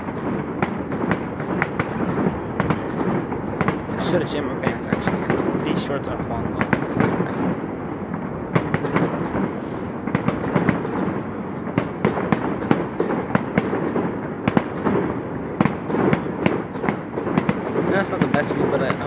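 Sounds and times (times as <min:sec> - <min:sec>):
rumble of fireworks bangs: 0:00.0 - 0:19.0.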